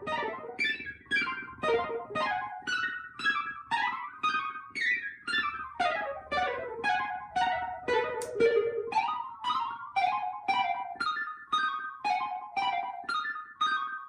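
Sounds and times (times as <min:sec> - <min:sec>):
synthesizer plucky notes: 0:00.0 - 0:04.6, 0:05.3 - 0:14.0.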